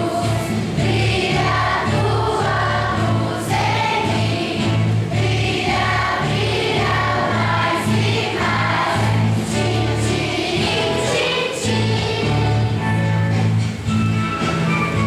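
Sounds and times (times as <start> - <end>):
children's choir singing: 0.0 - 13.2
instrumental accompaniment: 0.0 - 15.0.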